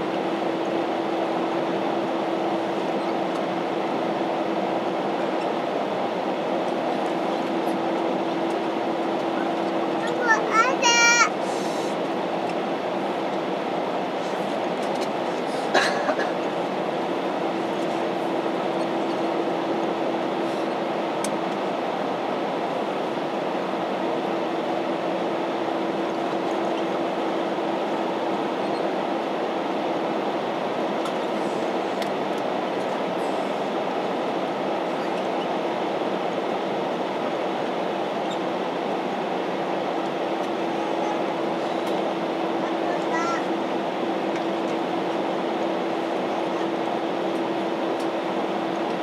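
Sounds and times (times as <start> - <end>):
airliner taxiing rumble: 0.0 - 49.0.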